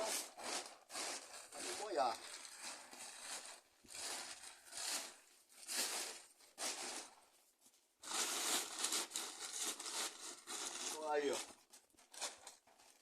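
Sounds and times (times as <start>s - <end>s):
rustling and crinkling: 0.0s - 13.0s.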